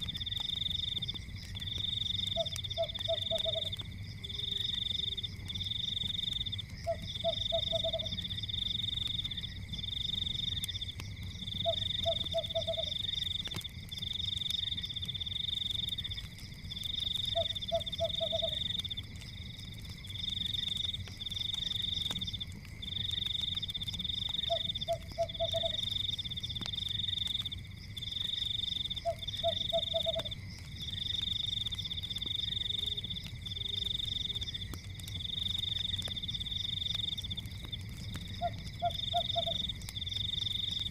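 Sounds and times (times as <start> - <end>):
frog low croak: 0.0 - 13.7, 14.8 - 19.9, 20.6 - 31.2, 32.4 - 40.9
fire crackling: 0.0 - 40.9.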